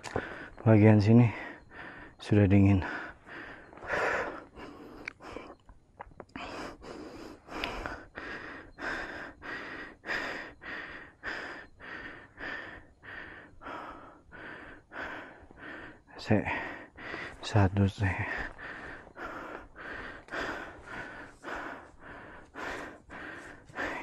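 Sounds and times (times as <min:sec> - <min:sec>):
man panting hard: 0:00.0 - 0:00.6, 0:01.2 - 0:05.6, 0:06.4 - 0:24.0.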